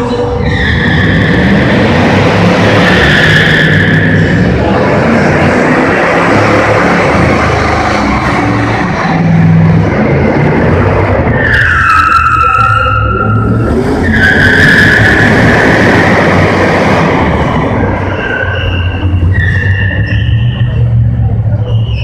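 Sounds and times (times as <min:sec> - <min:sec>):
tyres squealing on concrete: 0:00.0 - 0:09.6, 0:11.2 - 0:22.0
truck engine rumbling: 0:00.0 - 0:22.0.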